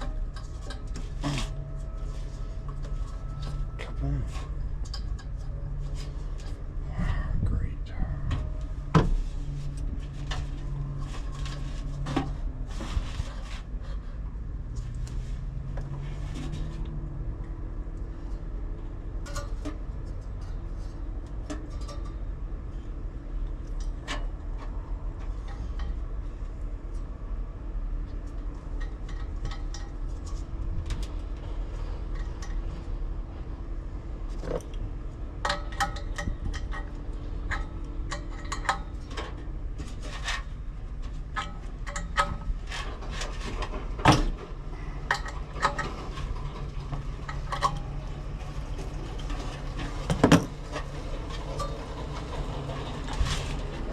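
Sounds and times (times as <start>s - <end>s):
faint constant tone: 0.0s - 53.9s
steady low hum: 0.0s - 53.9s.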